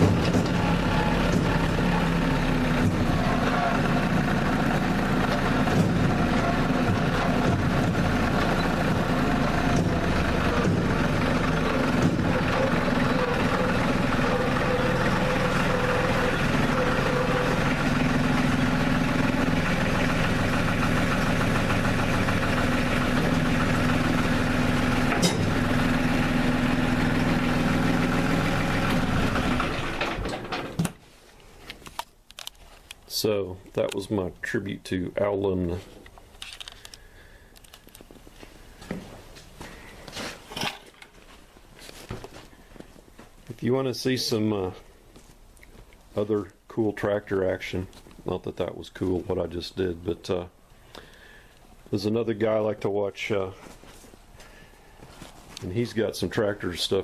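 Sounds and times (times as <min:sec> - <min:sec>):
tractor diesel engine running: 0:00.0 - 0:31.6, 0:32.3 - 0:57.0.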